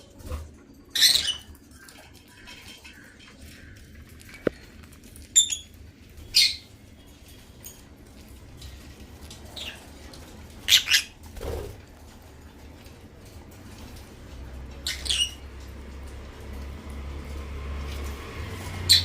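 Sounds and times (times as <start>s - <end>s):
lovebirds chirping and squawking: 0.2s - 11.8s, 13.7s - 16.8s, 17.9s - 19.0s.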